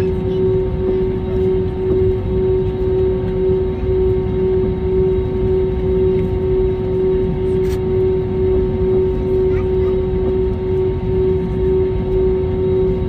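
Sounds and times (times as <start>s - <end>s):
jet cabin engine rumble: 0.0s - 13.0s.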